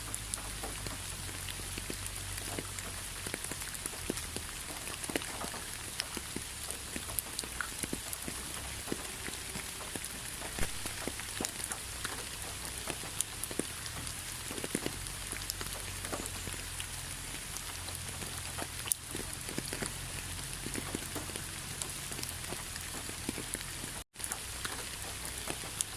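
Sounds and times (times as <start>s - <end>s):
raindrops striking close by: 0.0s - 25.9s
steady rain hiss: 0.0s - 25.9s.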